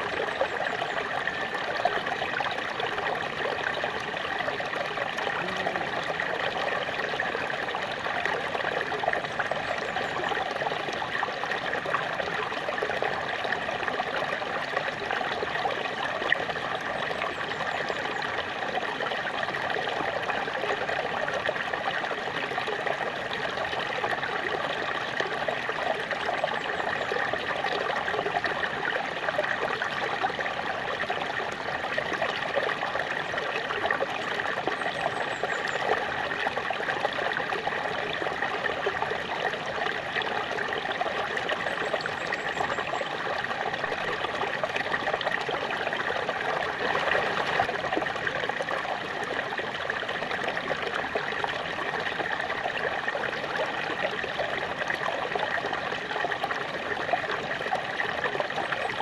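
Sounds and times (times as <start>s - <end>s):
small waterfall splashing: 0.0s - 59.0s.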